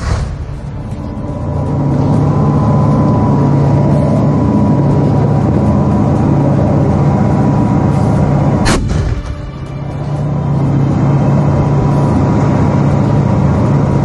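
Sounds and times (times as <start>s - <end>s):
high-pitched whine: 0.0s - 14.0s
tank engine running: 0.0s - 14.0s.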